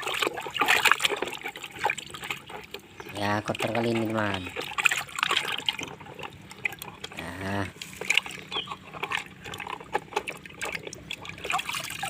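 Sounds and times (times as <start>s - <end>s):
water splashing in a tub: 0.0s - 12.0s.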